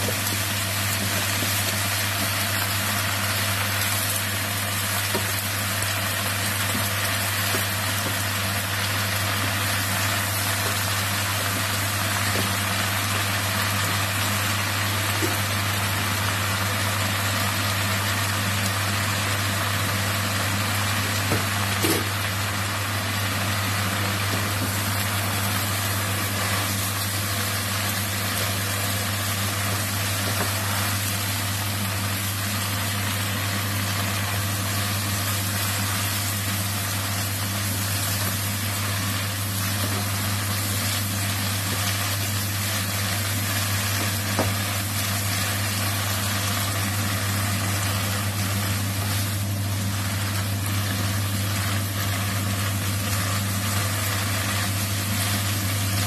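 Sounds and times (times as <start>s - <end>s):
greens sizzling in a wok: 0.0s - 56.0s.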